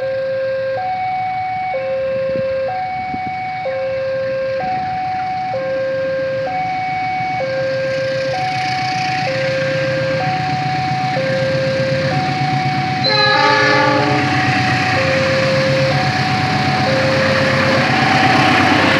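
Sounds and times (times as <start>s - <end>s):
two-tone crossing alarm: 0.0s - 18.9s.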